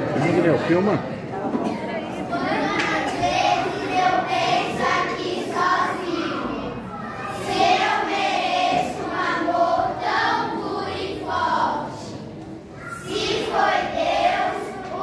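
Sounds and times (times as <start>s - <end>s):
children singing in unison: 2.2s - 15.0s.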